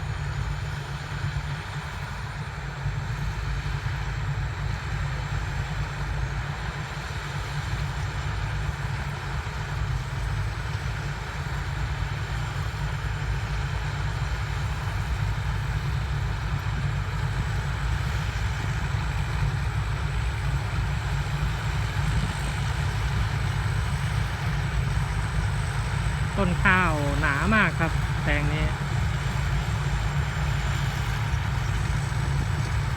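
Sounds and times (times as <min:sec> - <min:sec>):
diesel engine deep rumble: 0:00.0 - 0:32.9.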